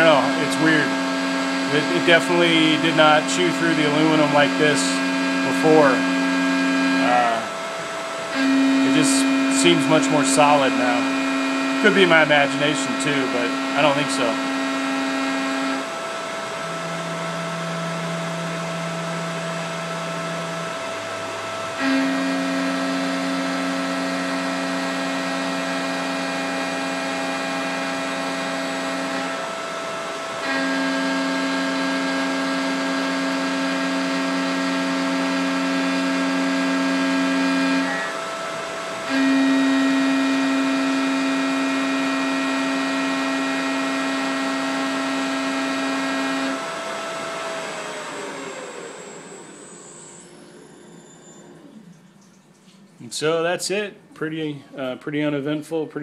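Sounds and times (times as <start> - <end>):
cutter cutting aluminum: 0.0 - 51.4
milling machine spindle whine: 0.0 - 54.9.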